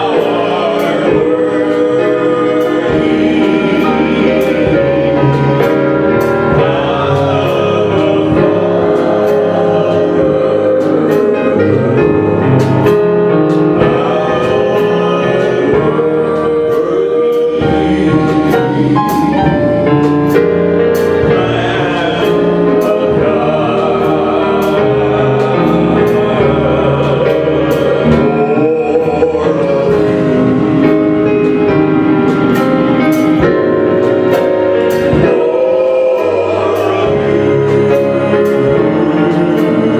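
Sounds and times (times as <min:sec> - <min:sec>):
gospel singers with band: 0:00.0 - 0:39.9
steady percussion beat: 0:00.0 - 0:39.9.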